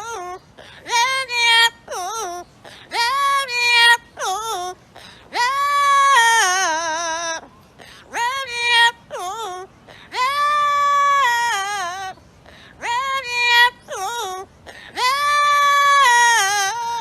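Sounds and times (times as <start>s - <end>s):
parrot singing high notes: 0.0s - 17.0s.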